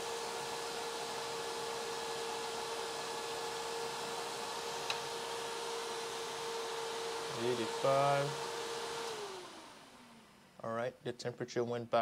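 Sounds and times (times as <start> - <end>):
electric cooling fan whirring: 0.0 - 12.0.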